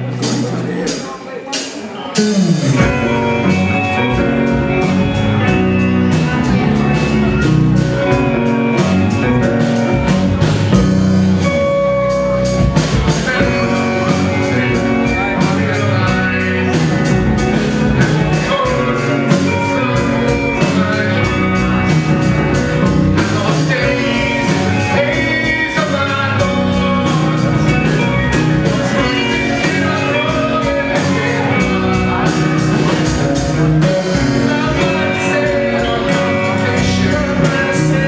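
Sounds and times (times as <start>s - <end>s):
rock band playing: 0.0s - 38.0s
steady drum beat: 0.0s - 38.0s.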